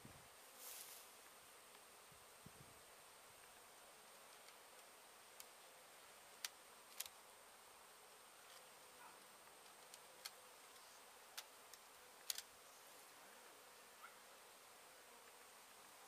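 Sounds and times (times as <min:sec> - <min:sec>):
bees buzzing: 0:00.2 - 0:16.0.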